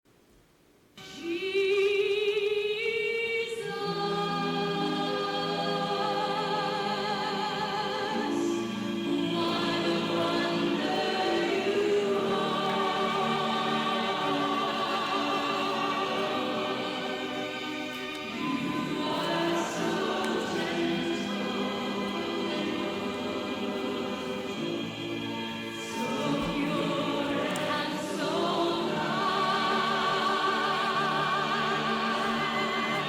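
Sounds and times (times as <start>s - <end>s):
choir singing a hymn: 1.1s - 33.0s.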